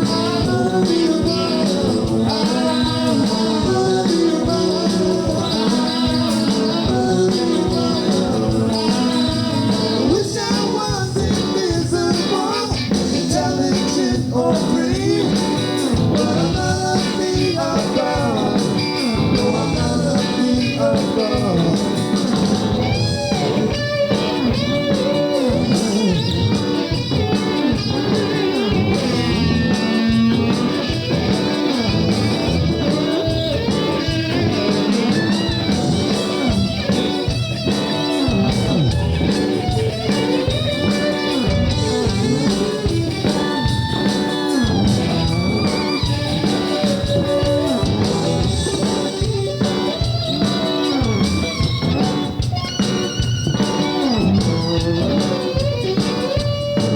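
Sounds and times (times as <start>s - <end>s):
electric guitar bent notes: 0.0s - 56.9s
rock band instrumental: 0.0s - 56.9s.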